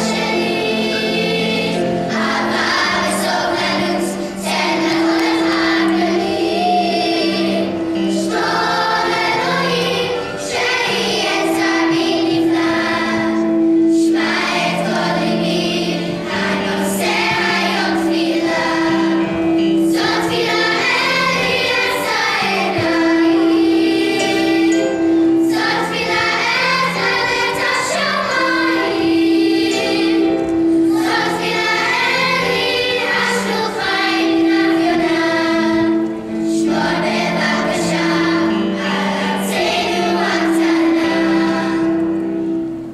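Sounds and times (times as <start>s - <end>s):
children's choir singing: 0.0s - 42.9s
electric keyboard accompaniment: 0.0s - 42.9s.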